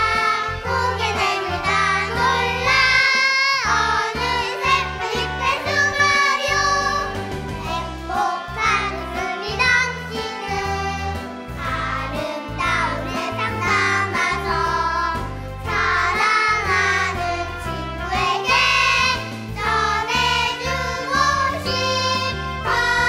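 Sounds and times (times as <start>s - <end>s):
children singing: 0.0s - 23.0s
instrumental accompaniment with bass: 0.0s - 23.0s.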